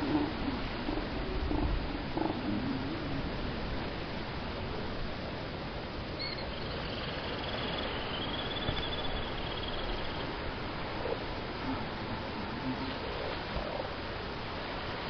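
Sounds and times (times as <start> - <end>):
ocean surf on rocky shore: 0.0 - 15.0.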